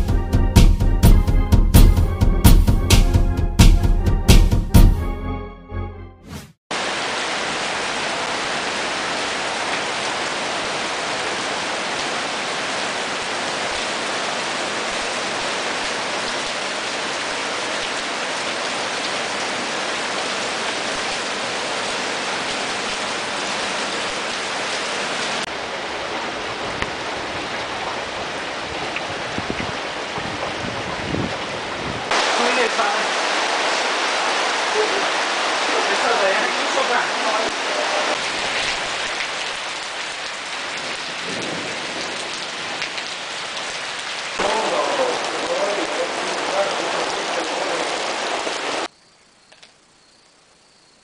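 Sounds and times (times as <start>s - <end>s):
heavy rain pouring: 6.7s - 48.9s.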